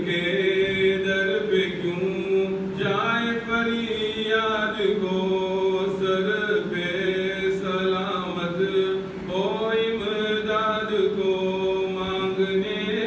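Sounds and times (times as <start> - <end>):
man chanting devotional poem: 0.0 - 13.0.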